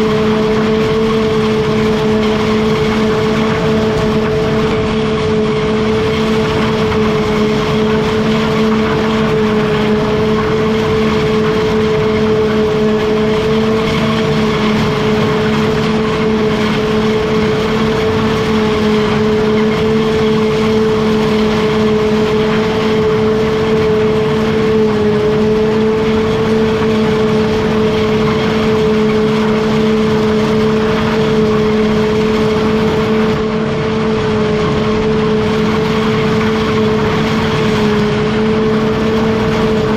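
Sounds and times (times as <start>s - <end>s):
farm machinery engine humming: 0.0s - 39.9s.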